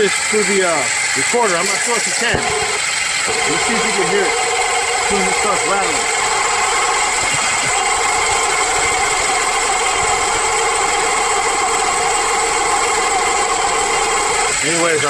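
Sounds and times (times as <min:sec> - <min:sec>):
alternator whine: 0:00.0 - 0:15.0
car engine idling: 0:00.0 - 0:15.0.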